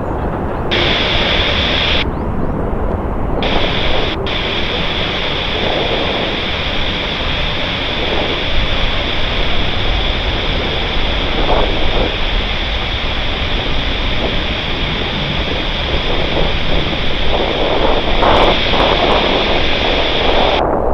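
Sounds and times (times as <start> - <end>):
jet engines roaring and whining: 0.0 - 20.9.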